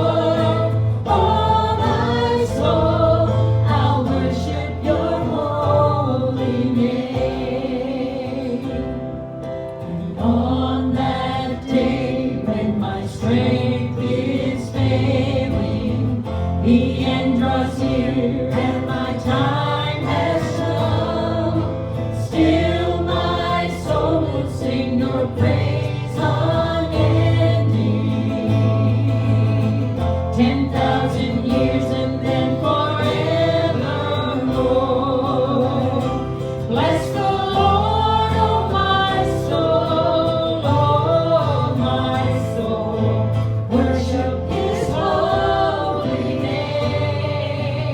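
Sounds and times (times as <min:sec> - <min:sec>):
group singing gospel song: 0:00.0 - 0:47.9.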